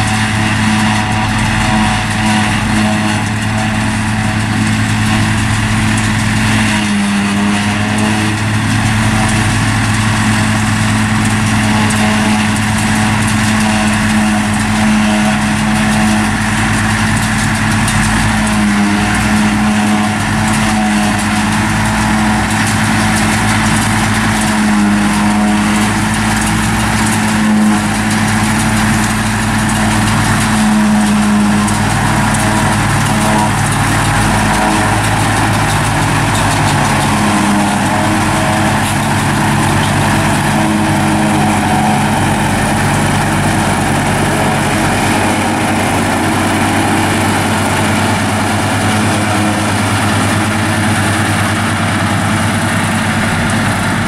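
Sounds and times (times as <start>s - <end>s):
diesel engine drone: 0.0s - 54.0s
harvester chopping grass: 0.0s - 54.0s.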